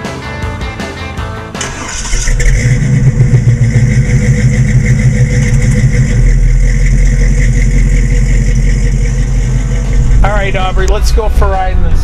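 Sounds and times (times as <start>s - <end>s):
car engine idling: 1.6s - 12.0s.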